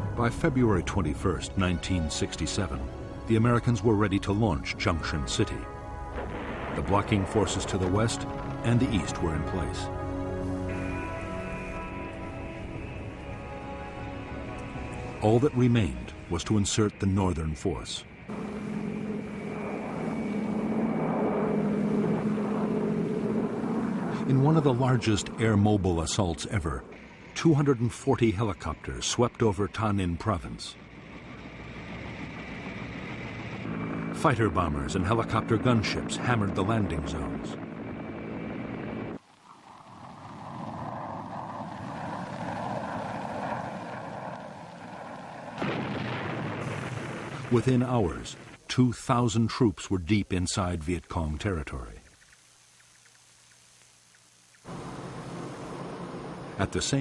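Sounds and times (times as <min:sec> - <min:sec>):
aircraft engines droning: 0:00.0 - 0:48.7, 0:54.6 - 0:57.0.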